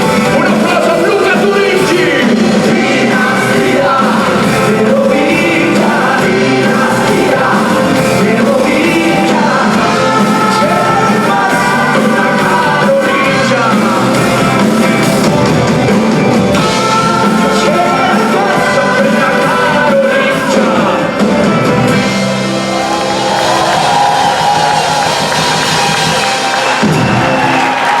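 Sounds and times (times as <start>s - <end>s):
person singing: 0.0s - 23.6s
rock band playing: 0.0s - 28.0s.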